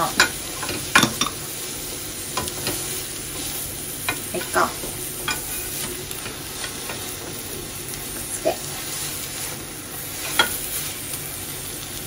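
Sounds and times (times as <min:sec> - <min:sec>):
egg sizzling in pan: 0:00.0 - 0:12.0.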